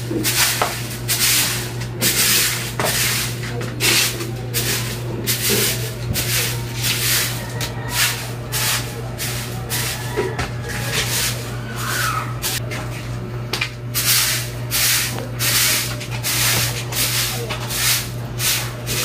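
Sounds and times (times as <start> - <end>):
broom sweeping wet concrete: 0.0 - 13.2, 14.0 - 19.0.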